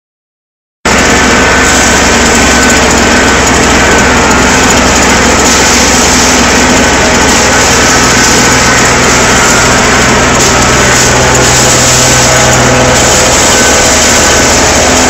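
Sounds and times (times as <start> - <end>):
small engine running: 0.9 - 15.0.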